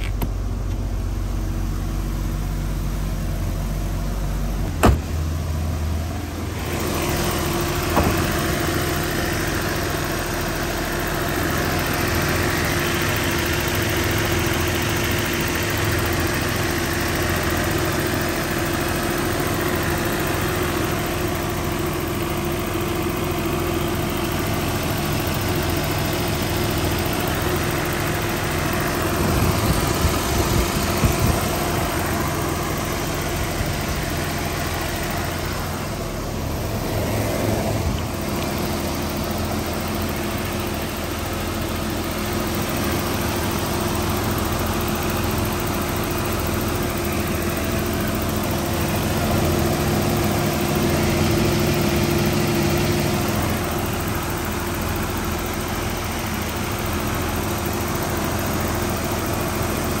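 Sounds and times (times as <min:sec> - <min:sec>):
car engine idling: 0:00.0 - 1:00.0.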